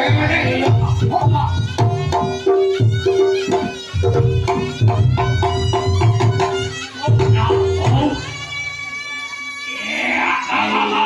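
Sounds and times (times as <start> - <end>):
kendang drums beating fast: 0.0 - 9.2
long held reedy melody: 0.8 - 9.9.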